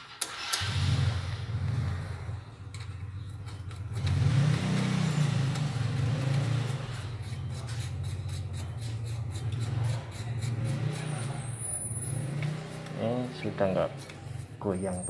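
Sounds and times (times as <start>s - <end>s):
vehicle engine humming: 0.6s - 15.0s.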